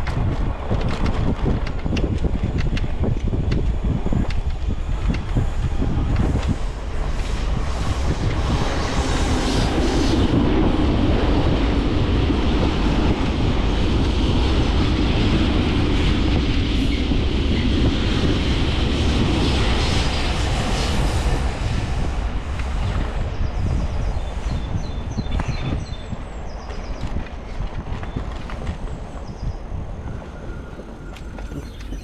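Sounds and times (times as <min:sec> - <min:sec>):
e-bike road noise: 0:00.0 - 0:32.0
wind buffeting microphone: 0:00.0 - 0:32.0.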